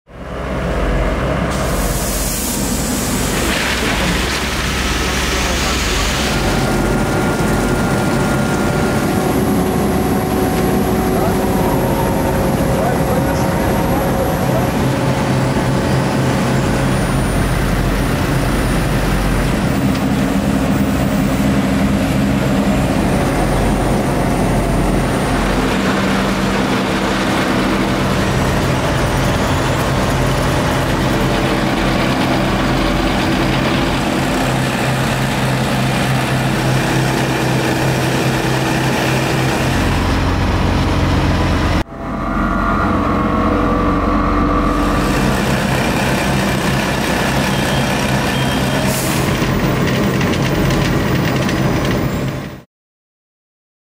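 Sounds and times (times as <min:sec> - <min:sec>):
diesel engines droning: 0:00.1 - 0:52.6.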